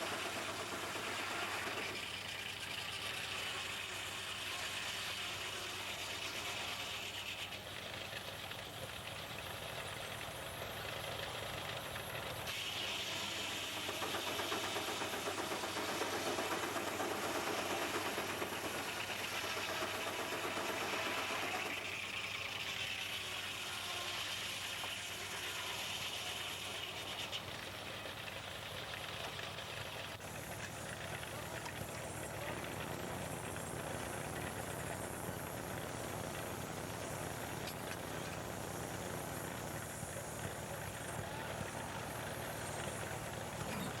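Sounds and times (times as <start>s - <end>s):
steam engine driving sawmill: 0.0s - 44.0s.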